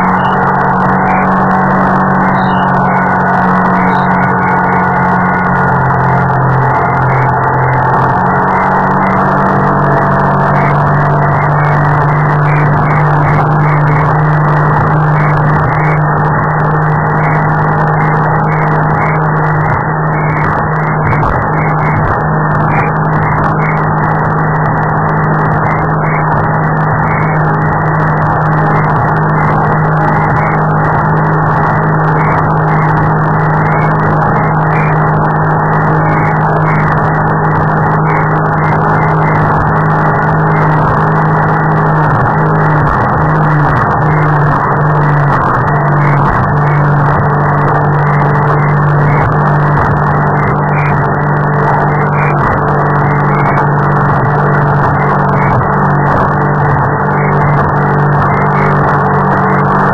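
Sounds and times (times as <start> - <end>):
powerboat engine running: 0.0 - 59.9.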